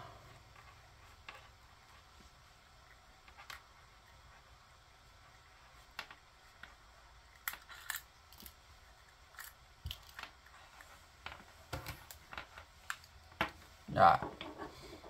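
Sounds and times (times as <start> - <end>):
cable clicking and rustling: 0.4 - 4.0, 5.2 - 15.0.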